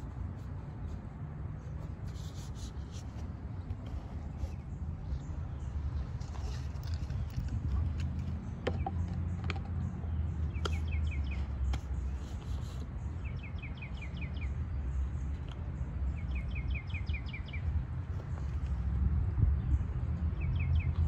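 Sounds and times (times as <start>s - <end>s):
low outdoor rumble: 0.0s - 21.0s
songbird singing: 1.6s - 21.0s.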